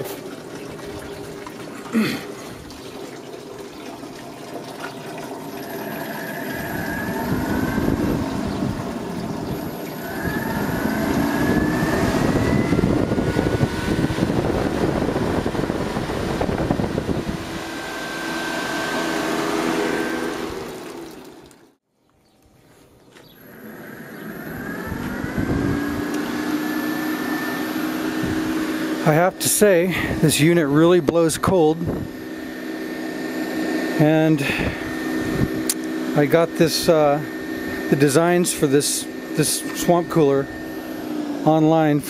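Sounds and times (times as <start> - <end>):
cooler fan motor humming: 0.0 - 42.0.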